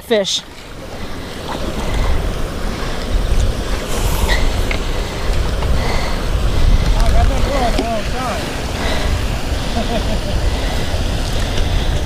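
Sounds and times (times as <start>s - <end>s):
wind buffeting microphone: 0.3s - 12.0s.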